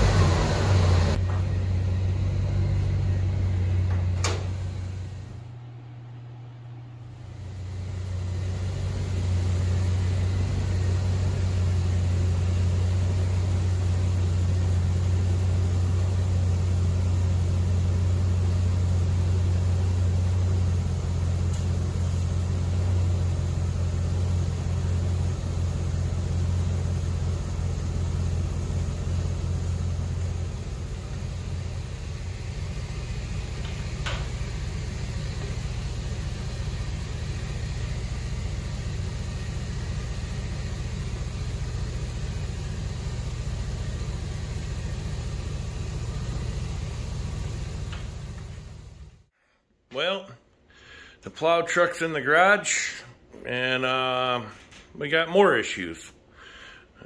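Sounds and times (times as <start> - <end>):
truck engine idling: 0.0 - 49.3.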